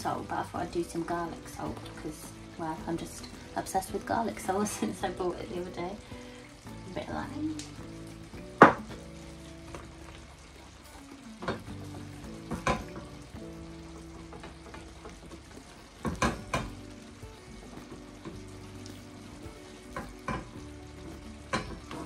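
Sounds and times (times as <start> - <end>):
sauce cooking hiss: 0.0 - 22.0
soft background music: 0.0 - 22.0.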